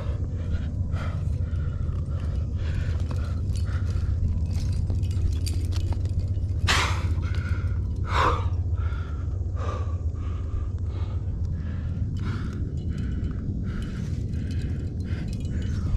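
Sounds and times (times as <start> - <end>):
low rumble: 0.0 - 15.9
person breathing hard: 0.0 - 15.9.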